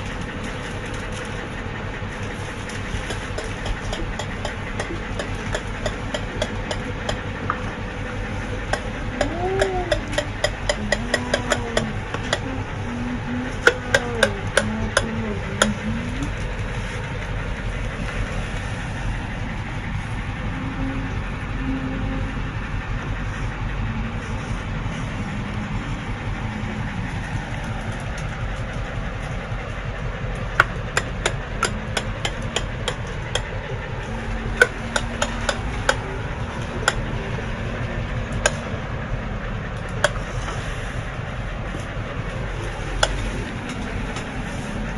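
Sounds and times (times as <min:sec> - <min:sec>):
toy tractor engine rattling: 0:00.0 - 0:44.9.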